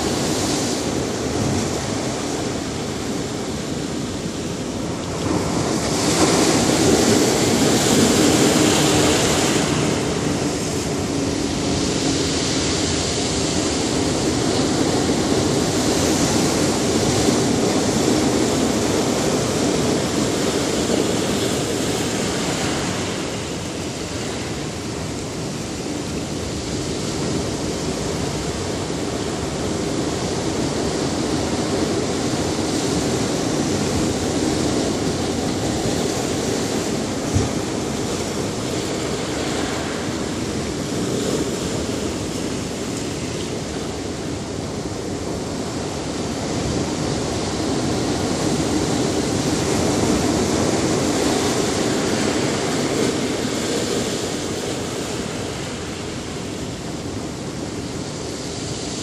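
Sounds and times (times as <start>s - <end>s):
surf breaking over rocks: 0.0s - 59.0s.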